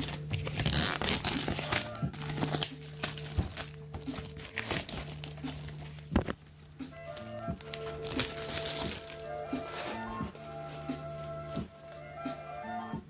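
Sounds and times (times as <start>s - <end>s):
packaging crinkling and rustling: 0.0s - 12.2s.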